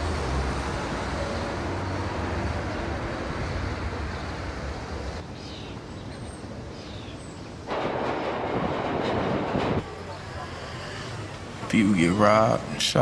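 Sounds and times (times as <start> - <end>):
city rumble: 0.0 - 13.0.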